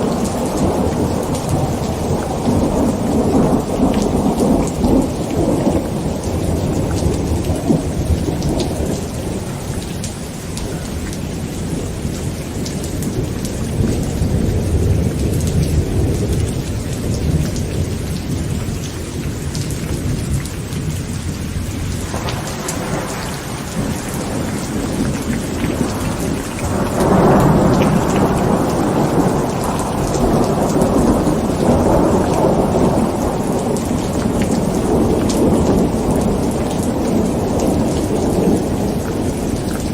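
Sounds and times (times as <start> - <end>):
rolling thunder: 0.0 - 10.0, 10.7 - 39.9
heavy rain on a tent: 0.0 - 39.9.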